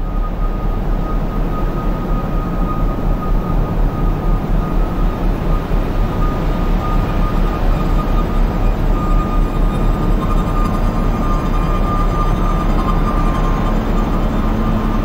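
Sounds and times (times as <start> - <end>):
rumbling drone with deep bass: 0.0 - 15.0
steady high tone: 0.0 - 15.0.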